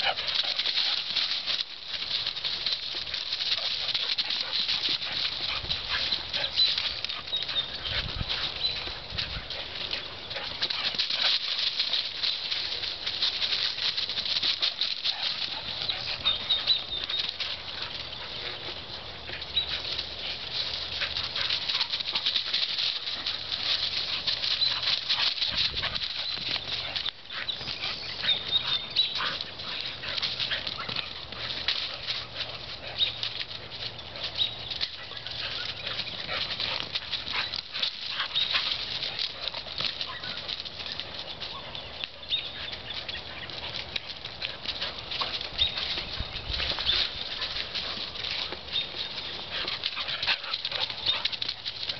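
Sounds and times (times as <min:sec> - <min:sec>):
dry leaves crunching and rustling: 0:00.0 - 0:51.9
footsteps through leaves: 0:00.0 - 0:51.9.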